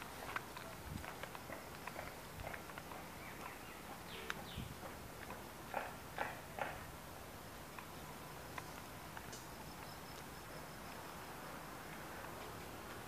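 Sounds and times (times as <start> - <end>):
construction site ambience: 0.0 - 13.0.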